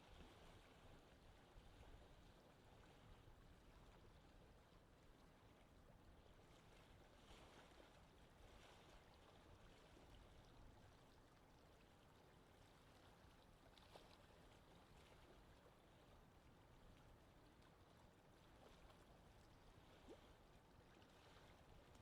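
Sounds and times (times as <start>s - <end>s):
soft water wash: 0.0s - 22.0s.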